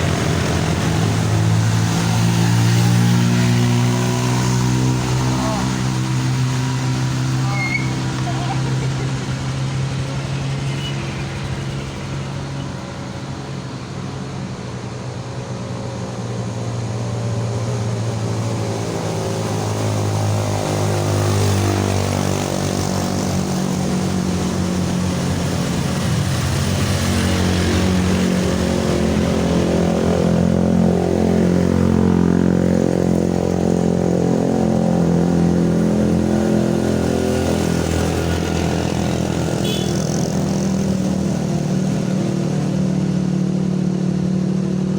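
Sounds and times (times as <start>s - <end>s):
vehicle engine labouring: 0.0s - 44.9s.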